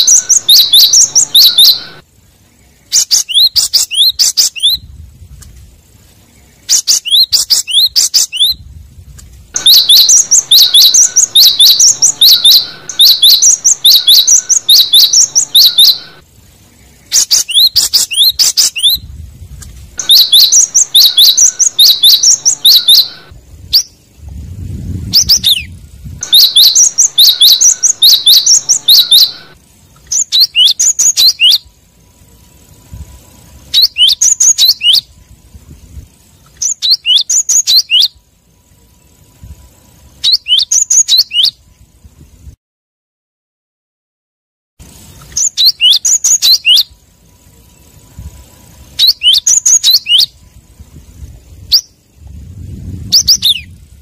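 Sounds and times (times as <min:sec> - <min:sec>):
bird singing high phrases: 0:00.0 - 0:04.9, 0:06.1 - 0:08.7, 0:09.5 - 0:19.2, 0:19.9 - 0:35.4, 0:36.1 - 0:41.7, 0:44.8 - 0:50.6, 0:51.6 - 0:53.9.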